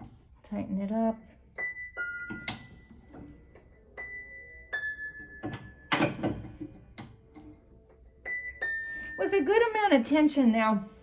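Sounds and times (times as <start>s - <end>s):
piano strings ringing: 1.1s - 10.1s.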